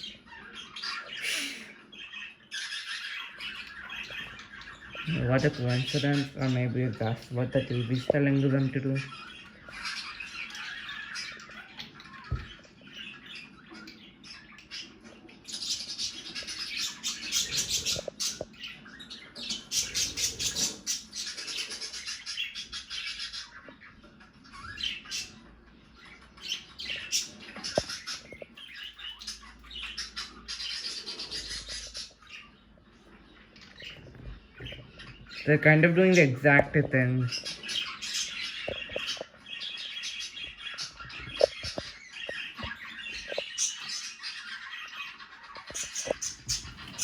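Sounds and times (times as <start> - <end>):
budgerigars chattering and squawking: 0.0 - 47.0.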